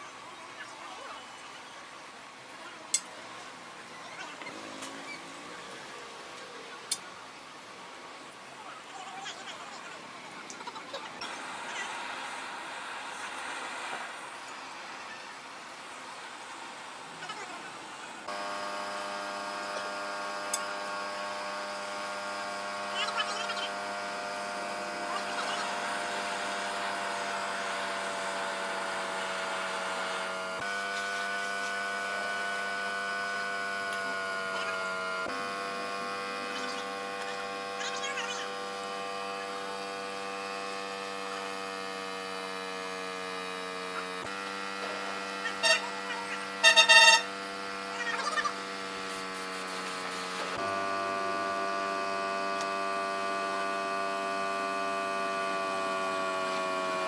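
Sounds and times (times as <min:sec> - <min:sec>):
electric machine hum: 0:01.9 - 0:08.5, 0:09.2 - 0:57.0.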